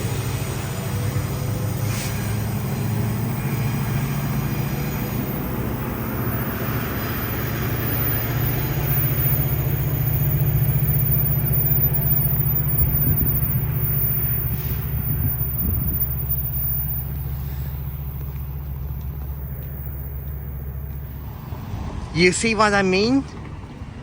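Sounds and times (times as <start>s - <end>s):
diesel locomotive rumble: 0.0s - 24.0s.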